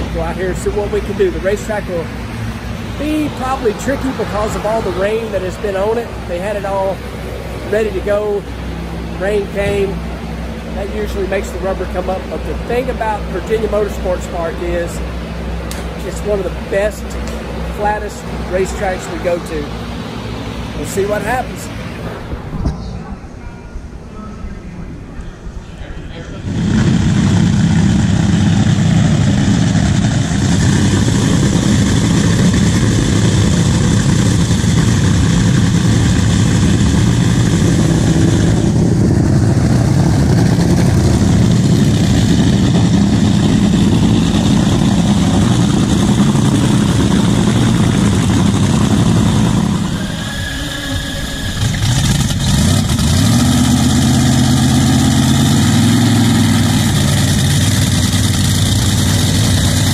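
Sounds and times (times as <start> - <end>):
loud racing engine idling: 0.0 - 59.9.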